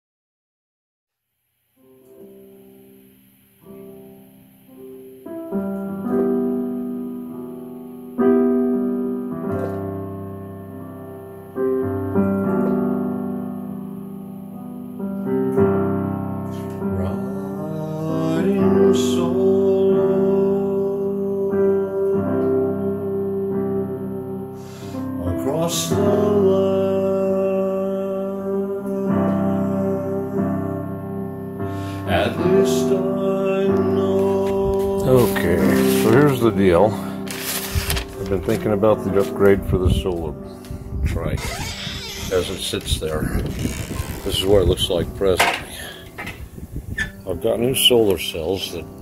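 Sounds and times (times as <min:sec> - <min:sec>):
piano playing sustained chords: 0:01.9 - 0:41.4, 0:42.3 - 0:49.0.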